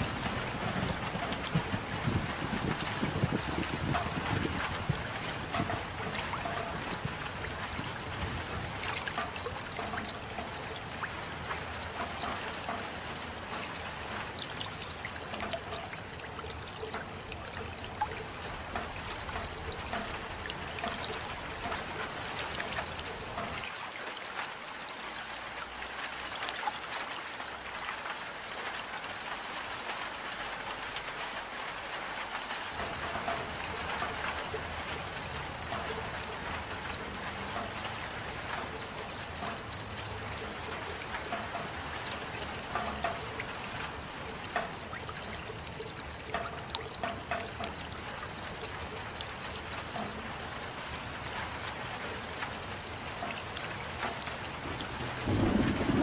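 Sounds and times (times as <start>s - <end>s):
rainfall with ticking drops: 0.0s - 56.0s
water trickling: 0.0s - 56.0s.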